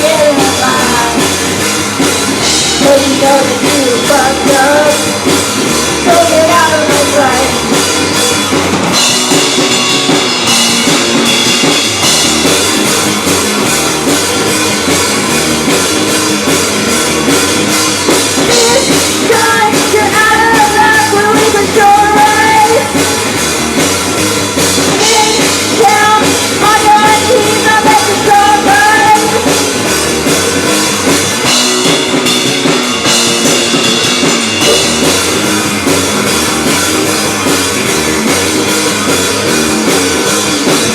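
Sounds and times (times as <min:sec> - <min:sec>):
rock band playing live: 0:00.0 - 0:40.9
sung lead melody: 0:00.0 - 0:40.9.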